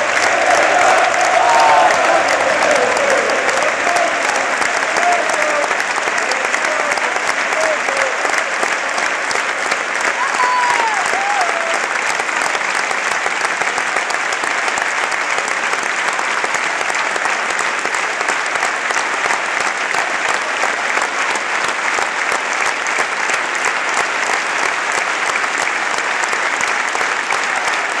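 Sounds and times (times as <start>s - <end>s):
stadium crowd applauding: 0.0s - 28.0s.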